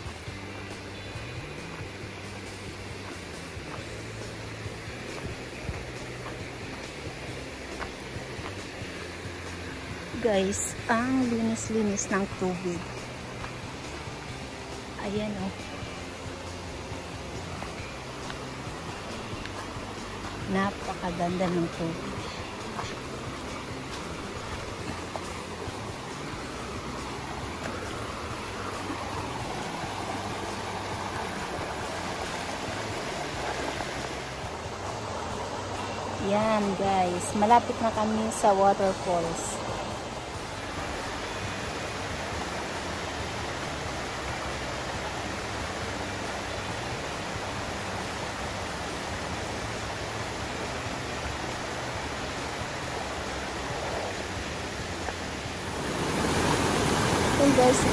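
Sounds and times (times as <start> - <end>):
creek water rushing over rocks: 0.0 - 57.9.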